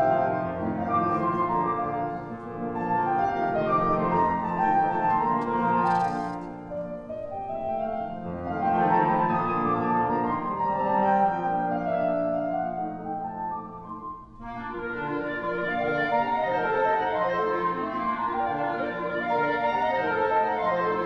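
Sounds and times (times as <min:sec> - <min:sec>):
instrumental music with held notes: 0:00.0 - 0:21.0.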